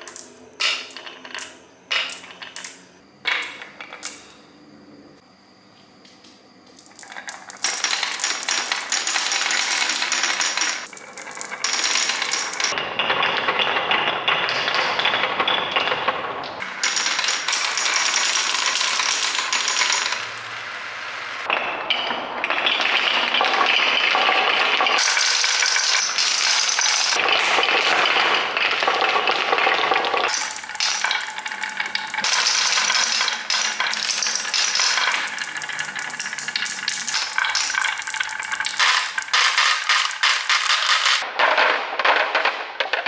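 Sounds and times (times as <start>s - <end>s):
marbles clattering and rolling: 0.0s - 4.2s, 6.7s - 43.0s.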